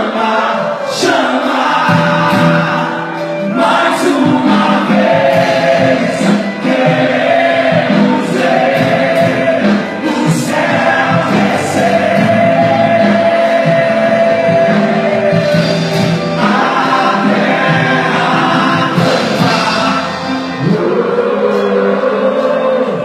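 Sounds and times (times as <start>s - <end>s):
band playing gospel song: 0.0s - 23.0s
many voices singing along: 0.0s - 23.0s.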